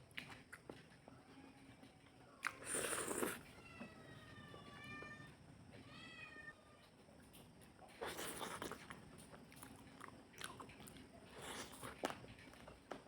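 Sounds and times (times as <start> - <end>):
cat eating noises: 0.0 - 13.0.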